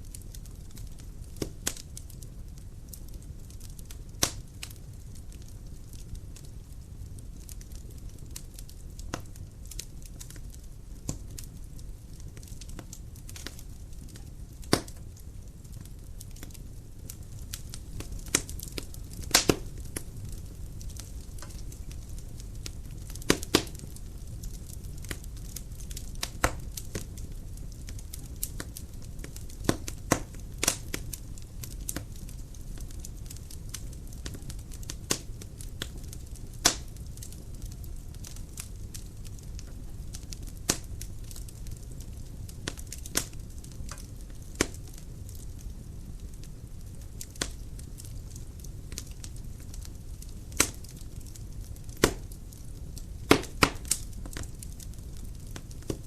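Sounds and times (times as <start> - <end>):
fire roaring: 0.0 - 56.0
wood crackling and popping: 0.0 - 56.0.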